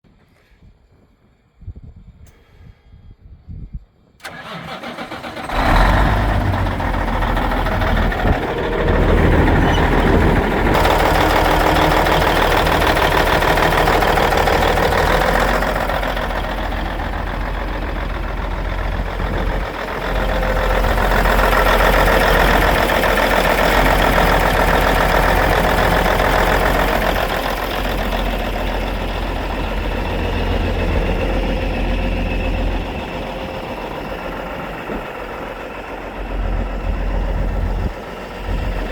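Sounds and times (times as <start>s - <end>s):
truck engine starting and idling: 4.2s - 38.9s.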